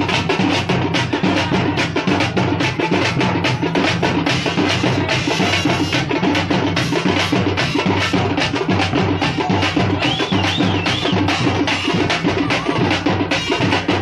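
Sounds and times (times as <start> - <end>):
frame drums beaten fast: 0.0 - 14.0.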